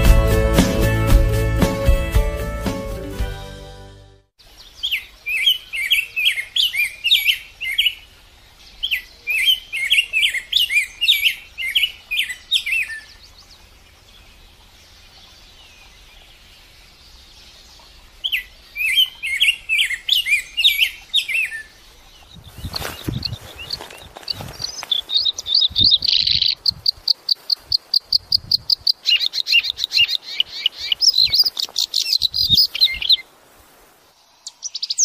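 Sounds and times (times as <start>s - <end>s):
songbird chirping: 4.4s - 35.0s.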